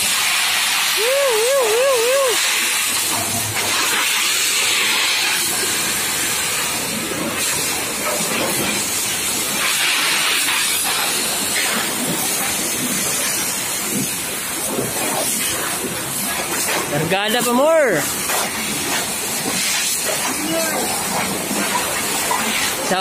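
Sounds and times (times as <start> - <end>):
water jets spraying on steel deck: 0.0 - 23.0.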